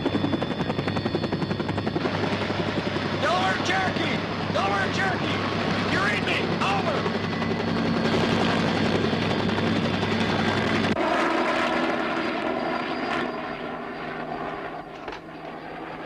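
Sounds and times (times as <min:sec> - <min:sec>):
helicopter flying: 0:00.0 - 0:16.0.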